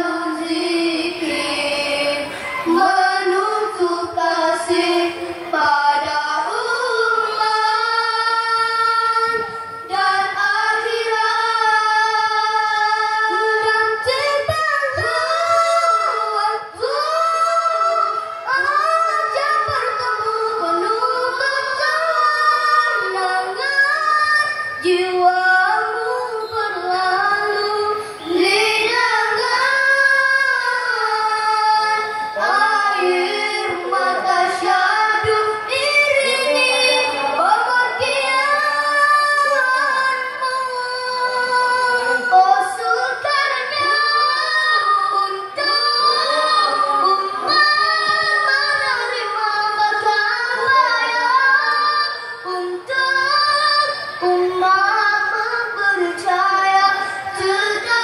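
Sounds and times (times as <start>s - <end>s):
boys singing together: 0.0s - 58.0s.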